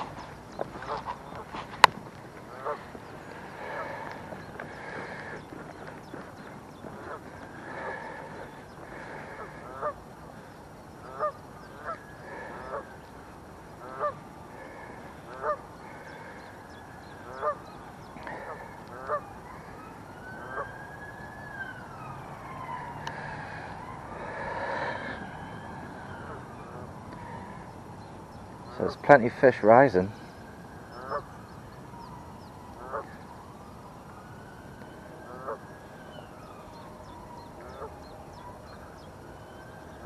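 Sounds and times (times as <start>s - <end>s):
geese honking: 0.0s - 20.8s, 21.7s - 27.6s, 28.6s - 33.4s, 35.2s - 36.4s, 37.5s - 39.3s.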